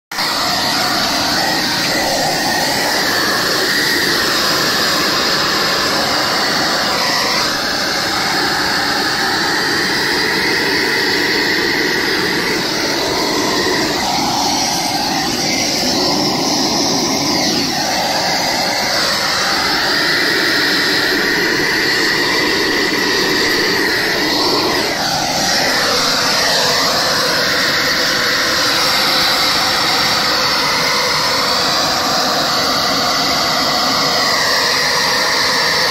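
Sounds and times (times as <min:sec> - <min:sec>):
drying equipment blowing roar: 0:00.1 - 0:35.9.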